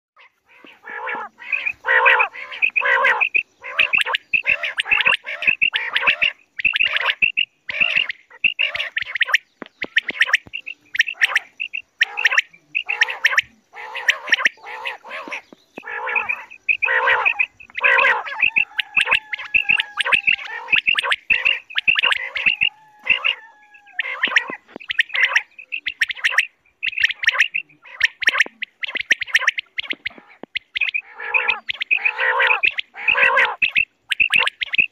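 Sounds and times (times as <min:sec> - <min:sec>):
quail calling: 0:00.2 - 0:34.9.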